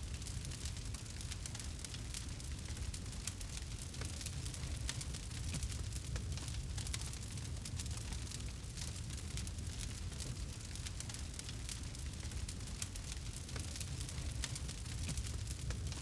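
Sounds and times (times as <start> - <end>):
campfire crackling and popping: 0.1 - 16.0.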